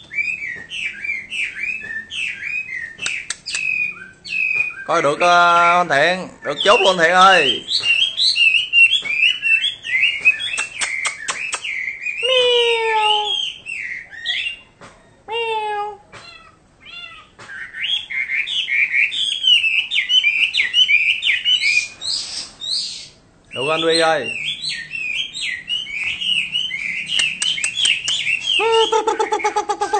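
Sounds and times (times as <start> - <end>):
bird singing whistled phrases: 0.0 - 14.7, 17.5 - 29.6.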